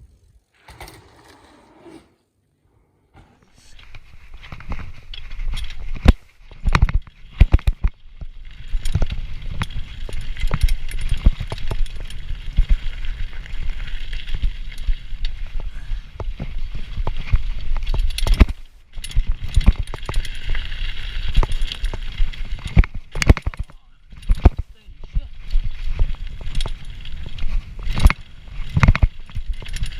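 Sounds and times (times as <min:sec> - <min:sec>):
tyre and ground noise: 0:00.0 - 0:02.3, 0:03.1 - 0:29.9
bike frame and chain rattling: 0:00.1 - 0:02.0, 0:03.8 - 0:29.9.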